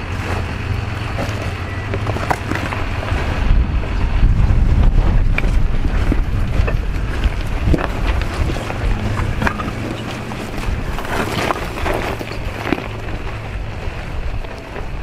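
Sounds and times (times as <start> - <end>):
engine running low: 0.0 - 15.0
stones crunching under tyres: 0.0 - 15.0
wind buffeting microphone: 0.0 - 15.0.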